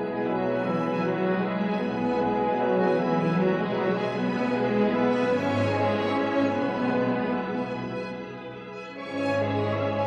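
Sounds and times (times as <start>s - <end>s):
slow orchestral strings: 0.0s - 10.0s.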